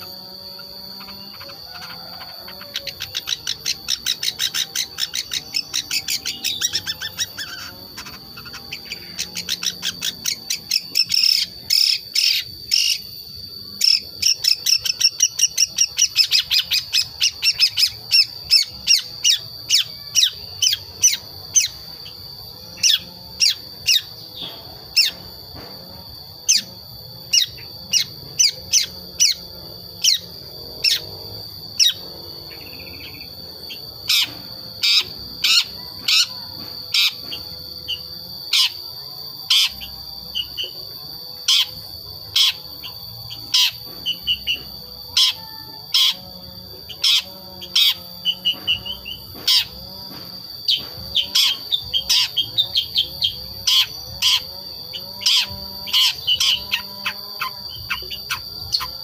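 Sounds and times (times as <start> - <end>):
high-pitched drone: 0.0 - 59.0.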